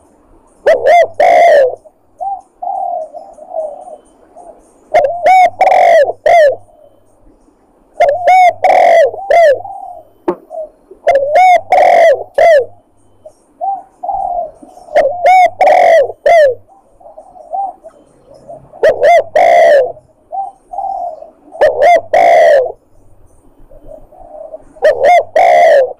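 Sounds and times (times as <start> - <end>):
dove cooing: 0.6 - 7.3, 7.9 - 25.9.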